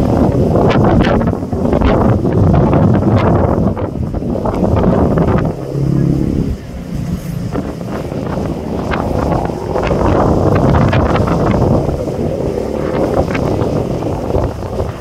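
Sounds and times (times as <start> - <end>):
churning sea water: 0.0 - 15.0
wind buffeting microphone: 0.0 - 15.0.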